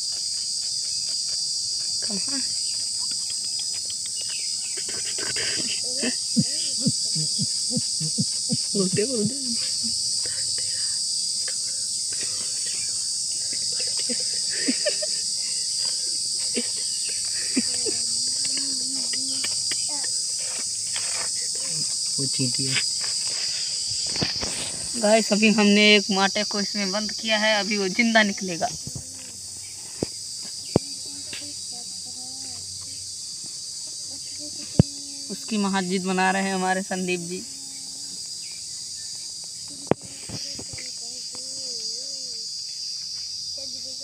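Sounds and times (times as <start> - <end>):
high-pitched insect chorus: 0.0 - 44.0.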